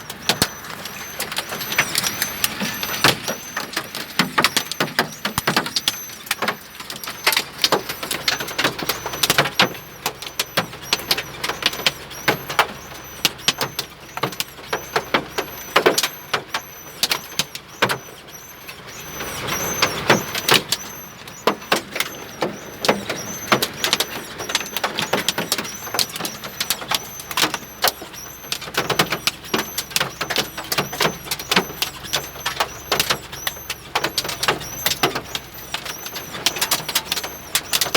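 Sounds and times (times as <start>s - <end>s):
hailstones pelting hard surfaces: 0.0s - 37.9s.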